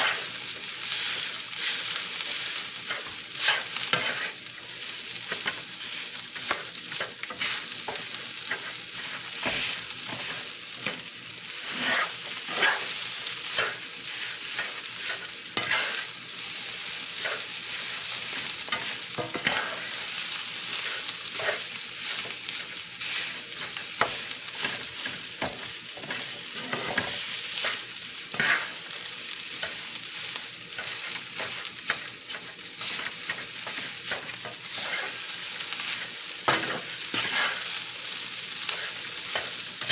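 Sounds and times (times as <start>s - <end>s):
spatula scraping a pan: 0.0s - 4.5s, 5.2s - 11.0s, 11.6s - 16.2s, 17.1s - 20.1s, 20.7s - 28.9s, 29.6s - 37.8s, 38.6s - 39.9s
rice sizzling in a pan: 0.0s - 39.9s.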